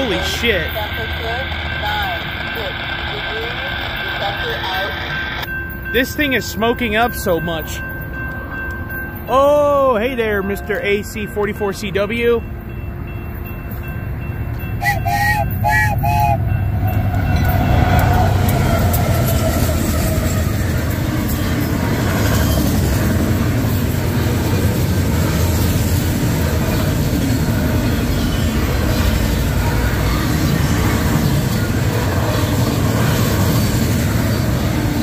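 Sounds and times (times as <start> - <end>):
diesel locomotive passing: 0.0 - 35.0
train wheels rumbling on rails: 0.0 - 35.0.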